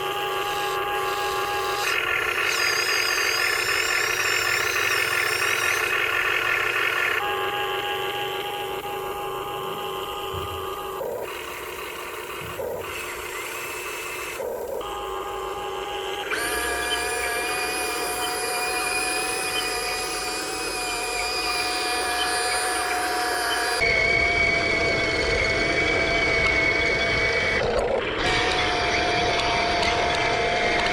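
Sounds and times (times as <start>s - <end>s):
small electric motors whining: 0.0s - 30.9s.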